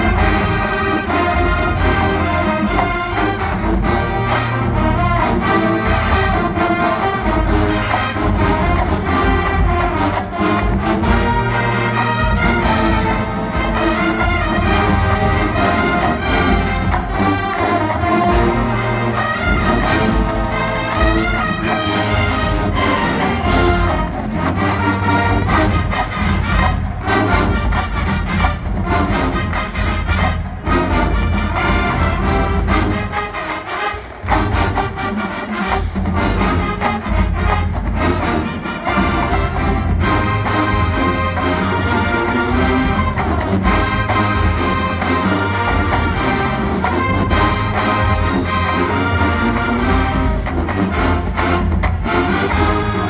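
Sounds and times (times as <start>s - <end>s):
marching band brass playing: 0.0s - 53.0s.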